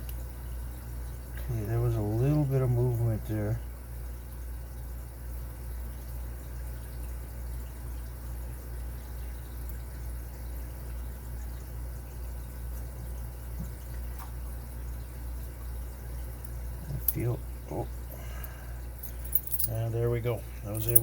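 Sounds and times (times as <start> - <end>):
low pulsing background hum: 0.0 - 21.0.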